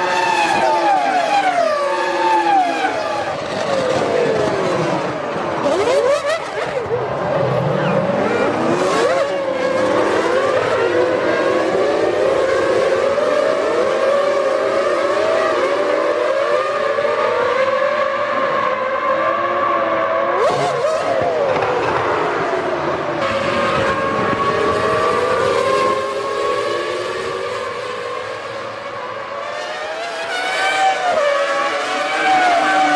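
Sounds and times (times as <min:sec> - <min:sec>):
racing engines revving: 0:00.0 - 0:32.9.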